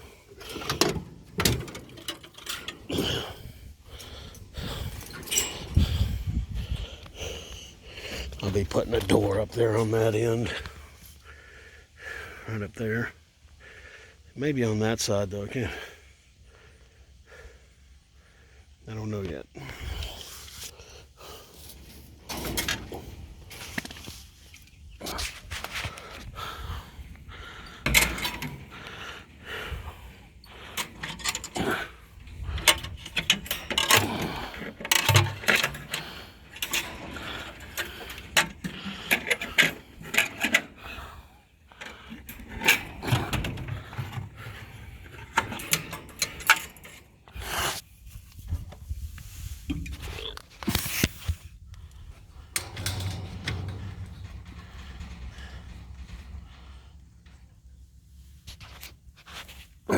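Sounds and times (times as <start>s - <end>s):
rattling knocking and scraping: 0.0s - 11.1s, 20.3s - 47.8s, 49.5s - 59.9s.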